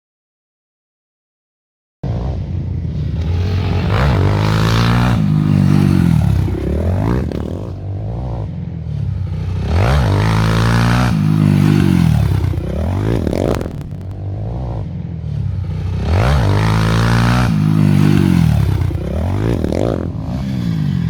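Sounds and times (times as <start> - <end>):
motorcycle engines revving hard: 2.0 - 21.0.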